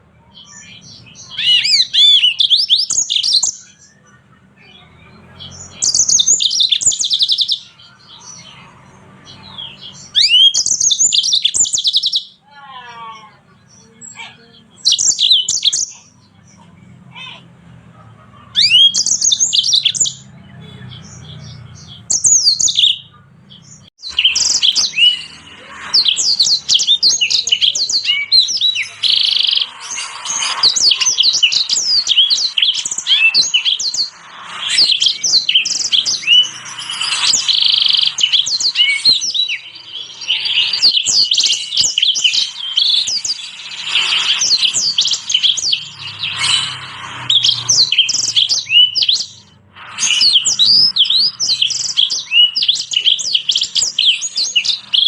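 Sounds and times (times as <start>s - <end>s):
finches singing high chirps and trills: 0.0s - 17.5s, 18.6s - 55.0s.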